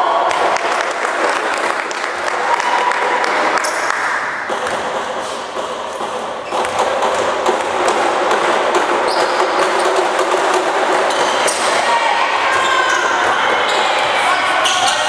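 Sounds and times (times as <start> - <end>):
crowd and player chatter: 0.0 - 15.0.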